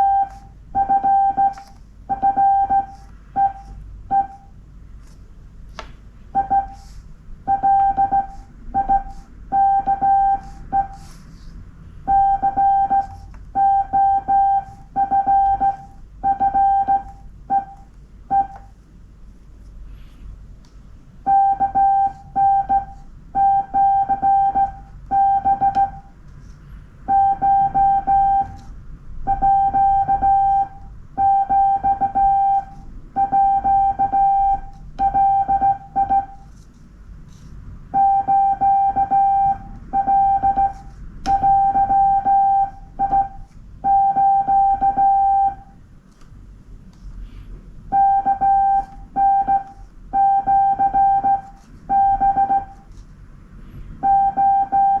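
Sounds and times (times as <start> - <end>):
morse code beeps: 0.0 - 4.5, 6.3 - 11.1, 12.0 - 18.7, 21.2 - 26.1, 27.0 - 36.5, 37.9 - 45.8, 47.9 - 52.9, 54.0 - 55.0.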